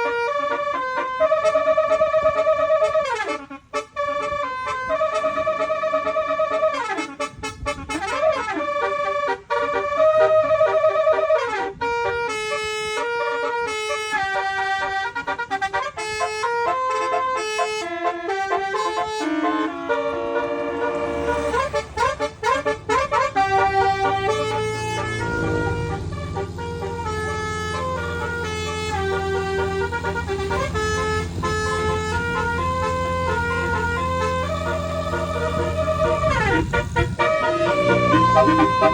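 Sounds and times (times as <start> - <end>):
air horns playing a tune: 0.0 - 38.9.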